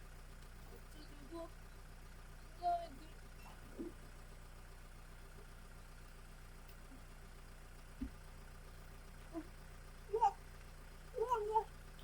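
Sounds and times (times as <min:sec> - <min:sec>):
engine humming at idle: 0:00.0 - 0:12.0.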